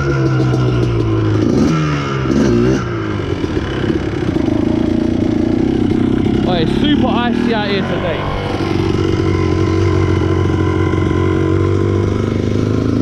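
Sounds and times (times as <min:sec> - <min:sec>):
two-stroke quad engine revving: 0:00.0 - 0:13.0.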